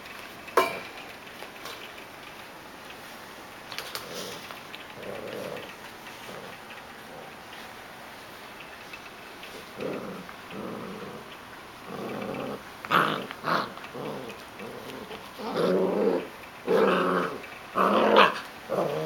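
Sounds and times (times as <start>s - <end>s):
puppies play-growling: 0.8s - 19.0s.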